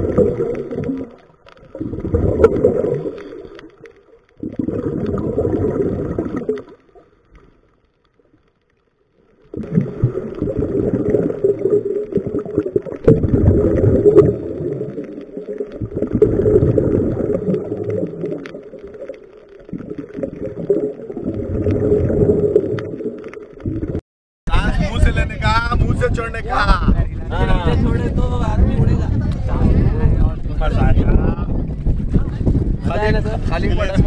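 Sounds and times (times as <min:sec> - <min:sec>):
underwater bubbles gurgling: 0:00.0 - 0:24.0, 0:26.9 - 0:34.0.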